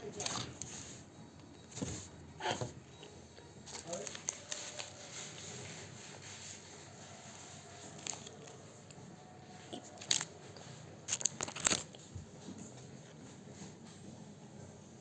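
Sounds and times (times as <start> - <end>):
quiet chewing: 0.0 - 14.2.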